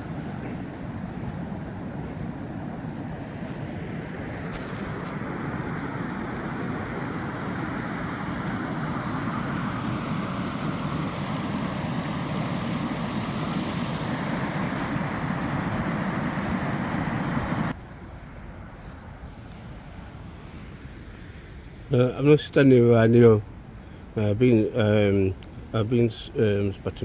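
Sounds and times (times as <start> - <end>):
low outdoor rushing noise: 0.0 - 27.0.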